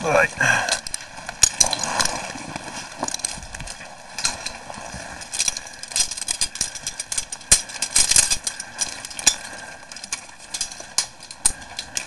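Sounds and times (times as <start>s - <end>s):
boots and gear on rock: 0.4s - 12.0s.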